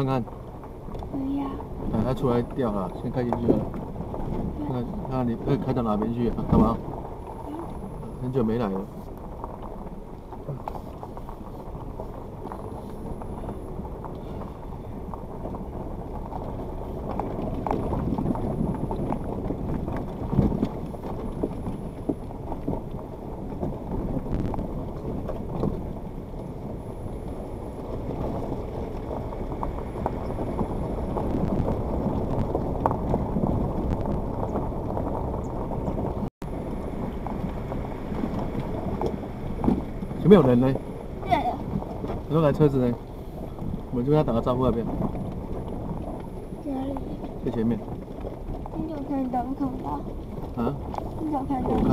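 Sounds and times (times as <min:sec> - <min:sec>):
car engine running low: 0:00.0 - 0:51.9
tyres rumbling on stones: 0:00.0 - 0:51.9.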